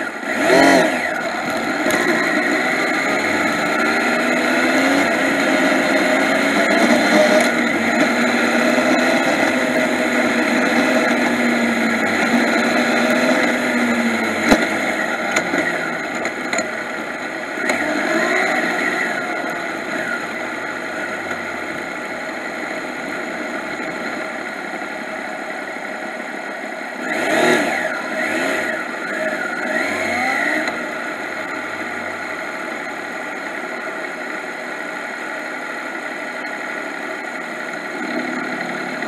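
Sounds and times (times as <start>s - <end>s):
motorcycle engine revving: 0.0s - 39.0s
motorcycle engine running: 0.0s - 39.0s.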